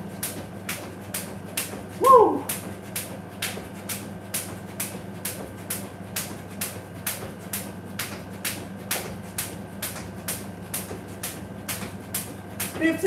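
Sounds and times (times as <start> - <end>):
steady low hum: 0.0 - 13.0
jump rope ticking on tiled floor: 0.2 - 13.0.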